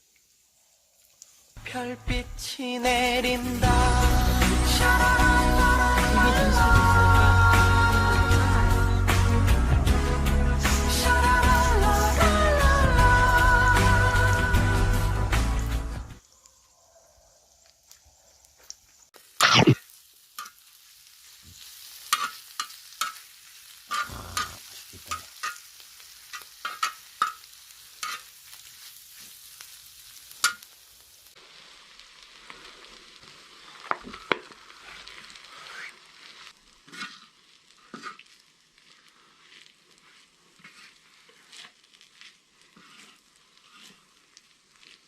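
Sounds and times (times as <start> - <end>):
food sizzling on a griddle: 0.0 - 16.3, 17.5 - 45.0.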